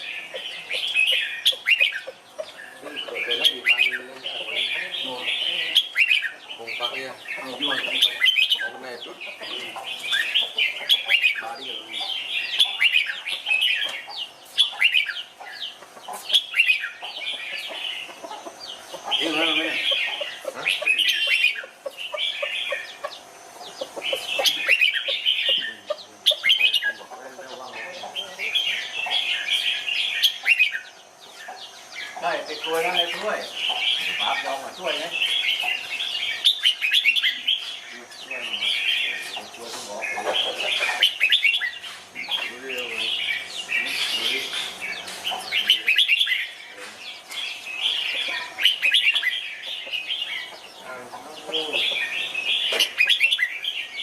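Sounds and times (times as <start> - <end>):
bulbuls chirping: 0.0 - 54.0.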